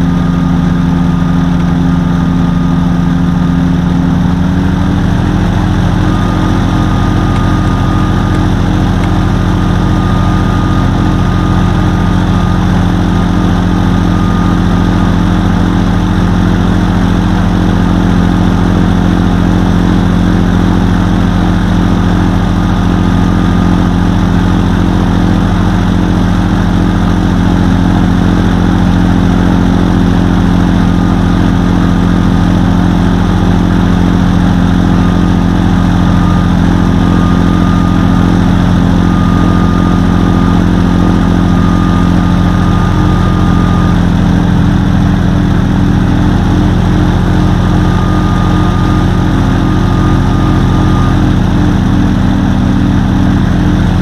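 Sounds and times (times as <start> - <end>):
ultralight engine and propeller idling: 0.0 - 54.0.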